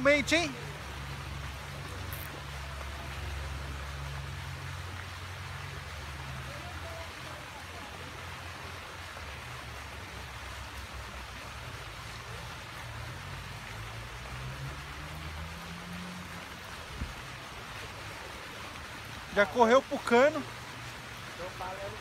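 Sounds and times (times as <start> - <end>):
rain falling on water: 0.0 - 22.0.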